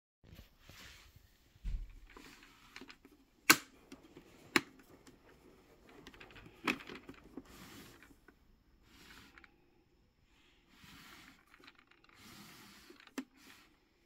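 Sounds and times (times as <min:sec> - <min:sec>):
faint rustling handling noise: 0:00.2 - 0:14.0.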